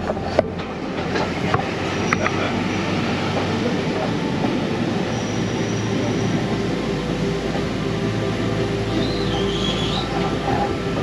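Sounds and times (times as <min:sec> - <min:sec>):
faint high wheel squeal: 0:00.0 - 0:11.0
train wheels rattling on rails: 0:00.0 - 0:11.0.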